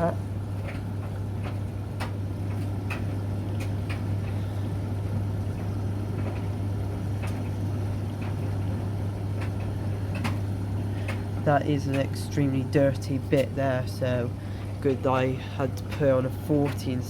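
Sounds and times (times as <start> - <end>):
motor hum: 0.0 - 17.0.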